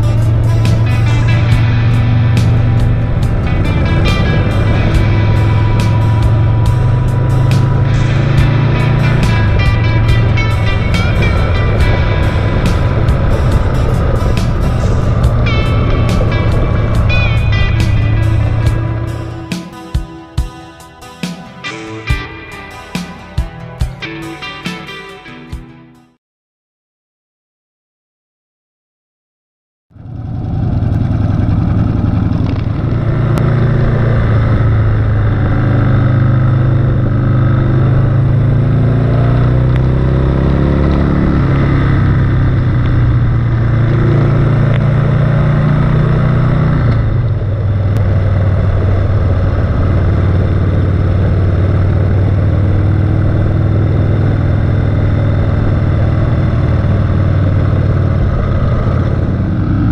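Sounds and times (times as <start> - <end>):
motorcycle engine running: 0.0 - 24.9, 29.9 - 59.9.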